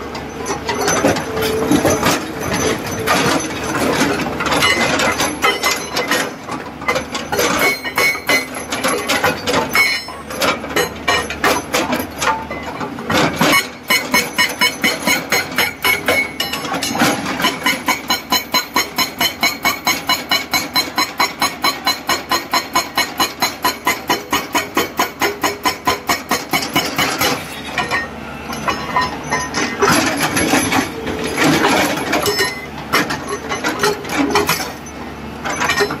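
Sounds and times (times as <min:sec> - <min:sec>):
hydraulic breaker hammering rock: 0:00.4 - 0:36.0.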